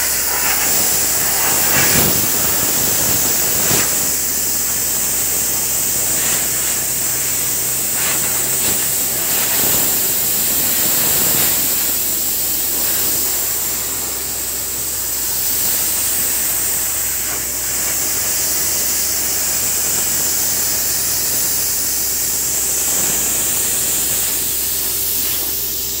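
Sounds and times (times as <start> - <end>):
compressed air hissing: 0.0 - 26.0
low machine hum: 0.0 - 26.0.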